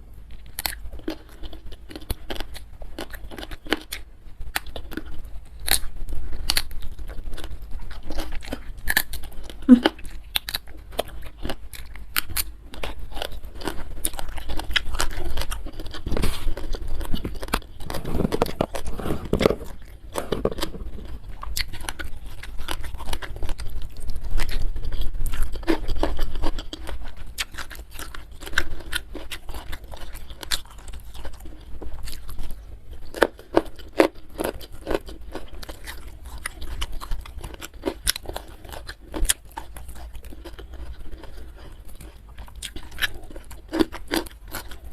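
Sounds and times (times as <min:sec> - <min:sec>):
person chewing and crunching food: 0:00.0 - 0:44.9.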